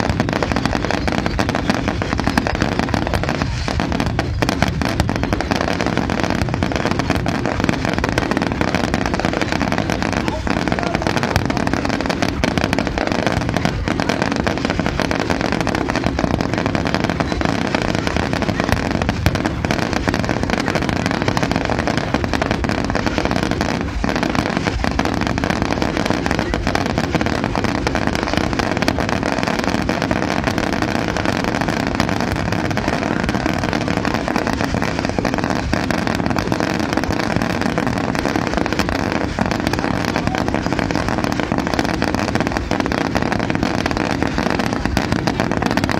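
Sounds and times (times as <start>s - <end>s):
fireworks crackling and popping: 0.0s - 45.9s
sharp firework bangs: 0.0s - 45.9s.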